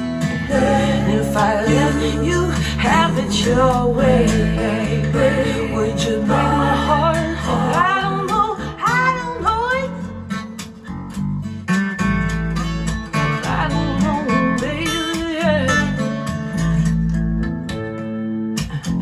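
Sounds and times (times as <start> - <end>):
pop song through amplifiers: 0.0 - 19.0.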